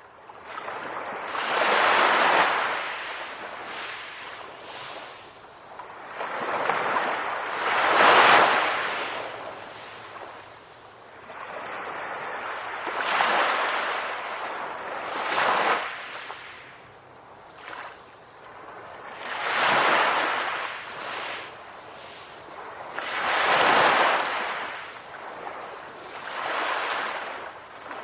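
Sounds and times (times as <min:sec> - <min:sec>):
ocean waves washing onto shore: 0:00.1 - 0:28.0.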